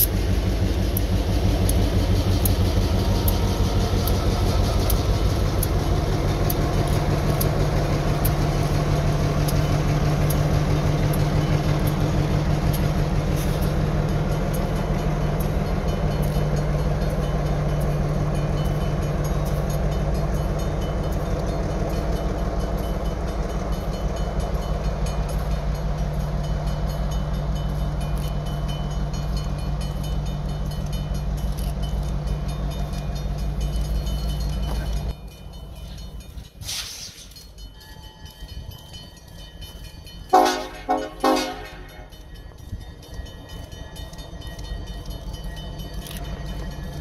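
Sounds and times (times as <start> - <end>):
diesel locomotive engine droning: 0.0 - 47.0.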